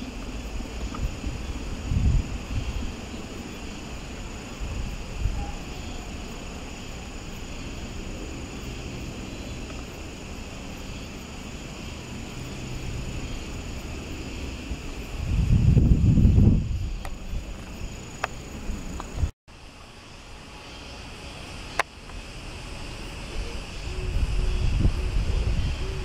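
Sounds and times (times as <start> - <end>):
crickets chirring: 0.0 - 26.0
low wind rumble: 0.0 - 26.0.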